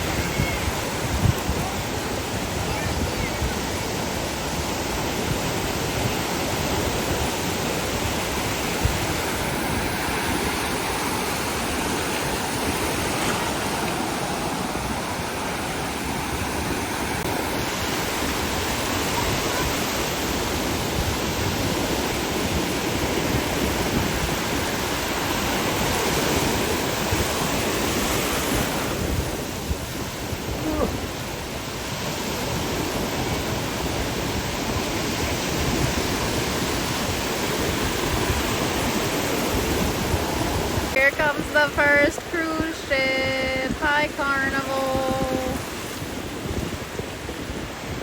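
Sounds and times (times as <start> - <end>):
ocean surf washing onto beach: 0.0 - 48.0.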